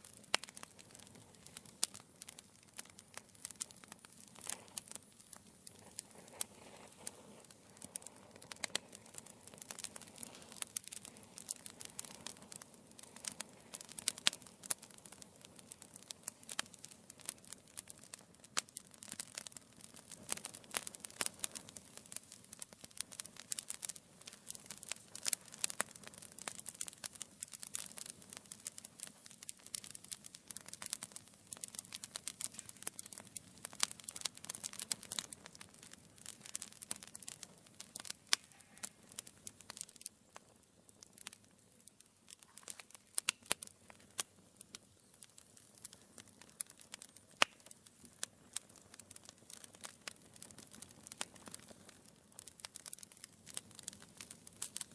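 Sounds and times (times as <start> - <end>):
logs crackling in fireplace: 0.0 - 54.9.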